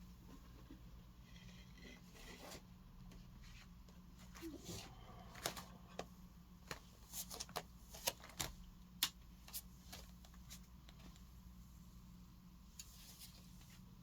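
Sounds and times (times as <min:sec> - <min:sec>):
faint steady low hum: 0:00.0 - 0:14.0.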